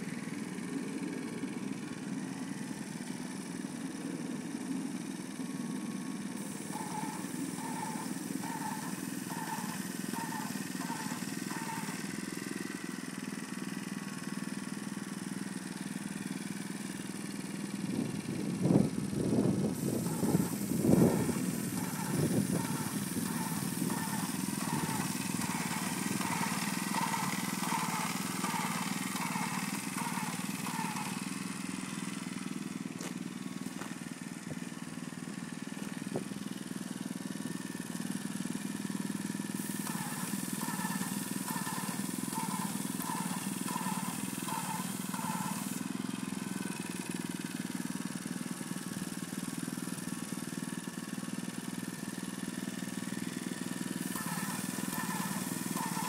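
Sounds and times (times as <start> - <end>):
rhythmic pulsing hiss: 0.0 - 18.2, 19.0 - 36.9, 37.5 - 47.2, 53.4 - 56.0
small gasoline engine running: 0.0 - 56.0.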